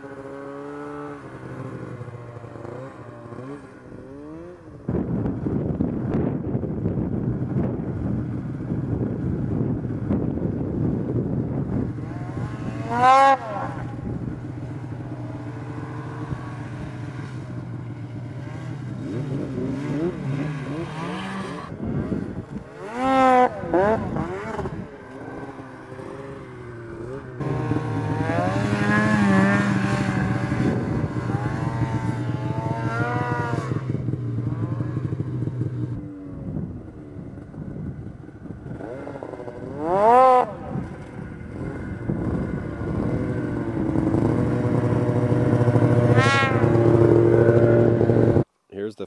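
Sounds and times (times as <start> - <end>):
snowmobile engines revving: 0.0 - 6.4, 7.3 - 37.6, 38.2 - 49.0.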